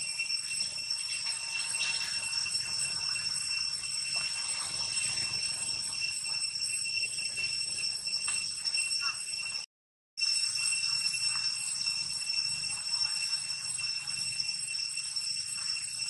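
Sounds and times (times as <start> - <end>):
high-pitched insect chorus: 0.0 - 9.6, 10.2 - 16.0.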